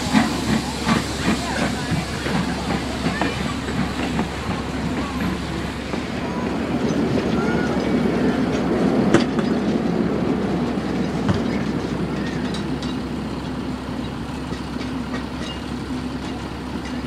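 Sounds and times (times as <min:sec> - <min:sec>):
train rumbling over rails: 0:00.0 - 0:17.0.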